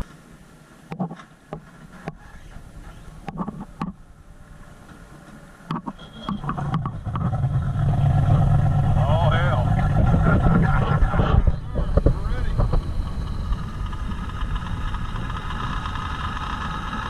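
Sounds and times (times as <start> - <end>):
boat engine running: 2.0 - 17.0.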